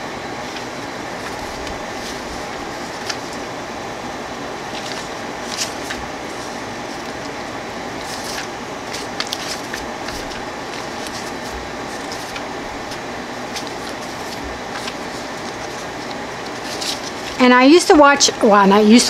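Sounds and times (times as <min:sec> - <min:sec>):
steady background hiss: 0:00.0 - 0:19.0
paper rustling and shuffling: 0:00.4 - 0:03.6, 0:04.6 - 0:19.0.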